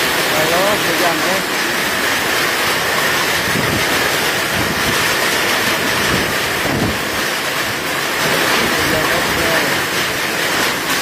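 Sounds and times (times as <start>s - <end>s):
heavy rain and hail pelting: 0.0s - 11.0s.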